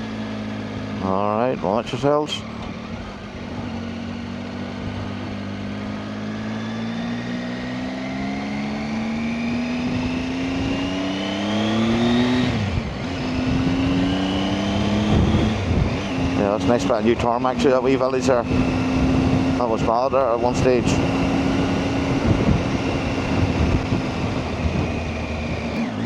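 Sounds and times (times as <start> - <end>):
motorcycle engine revving: 0.0 - 26.0
wind and road noise: 0.0 - 26.0.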